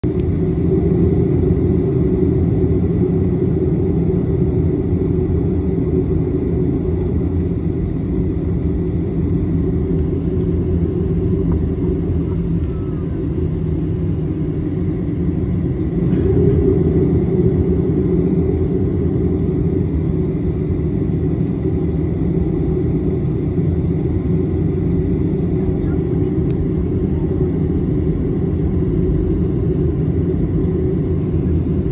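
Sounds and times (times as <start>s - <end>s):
jet engines rumbling in cabin: 0.0s - 31.9s.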